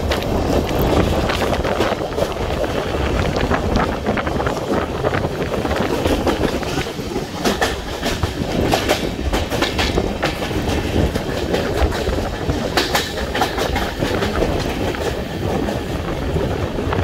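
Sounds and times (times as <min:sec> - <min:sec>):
train wheels rumbling over rails: 0:00.0 - 0:17.0.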